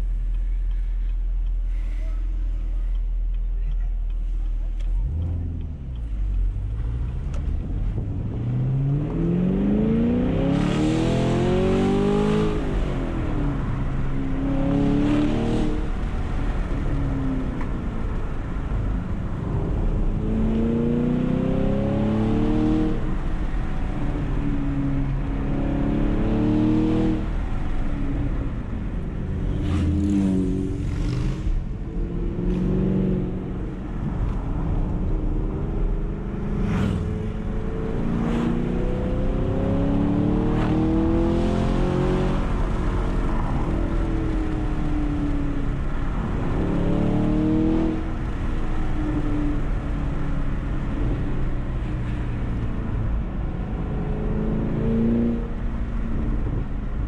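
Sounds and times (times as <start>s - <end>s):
road and tyre noise: 0.0s - 57.0s.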